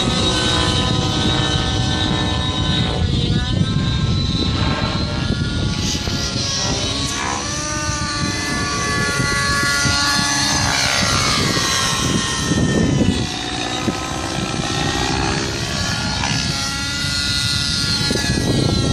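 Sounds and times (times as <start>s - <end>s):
model helicopter rotor whine: 0.0s - 18.9s.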